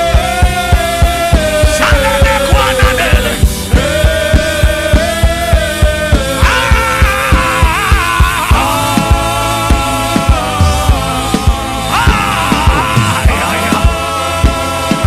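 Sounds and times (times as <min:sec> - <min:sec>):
pulsing beat: 0:00.0 - 0:15.0.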